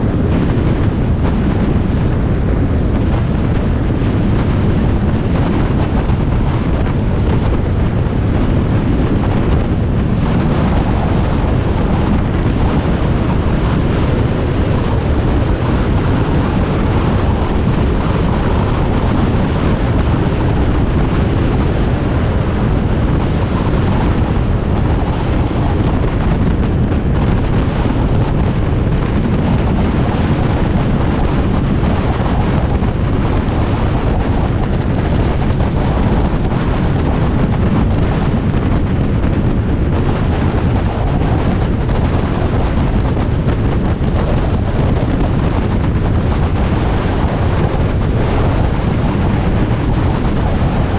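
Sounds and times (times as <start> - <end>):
wind blasting over microphone: 0.0 - 50.9.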